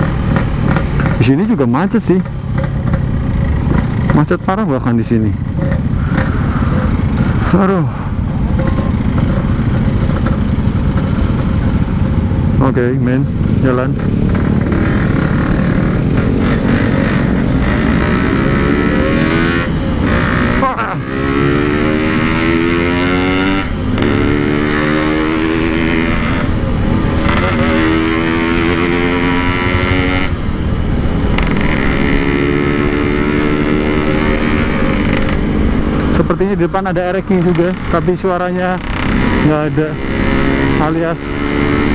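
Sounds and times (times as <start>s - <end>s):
two-stroke motorcycle accelerating: 0.0s - 41.9s.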